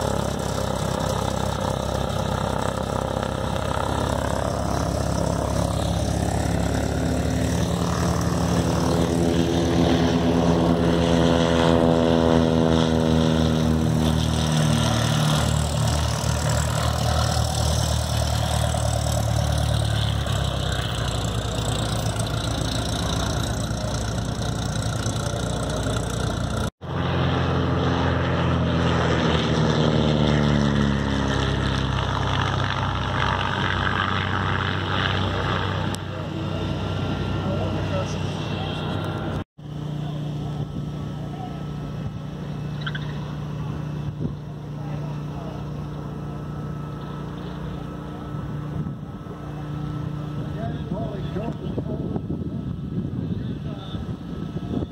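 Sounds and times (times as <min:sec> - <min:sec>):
propeller airplane passing: 0:00.0 - 0:54.9.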